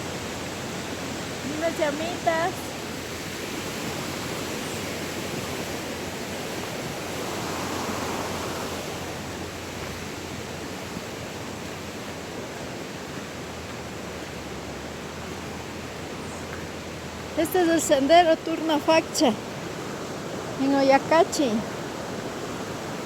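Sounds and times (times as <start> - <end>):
flowing mountain water: 0.0 - 23.0.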